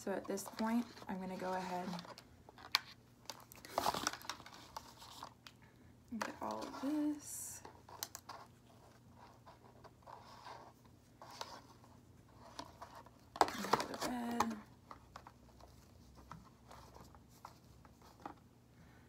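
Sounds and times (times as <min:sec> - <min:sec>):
plastic tubing rustling: 0:00.0 - 0:05.6, 0:06.2 - 0:18.5.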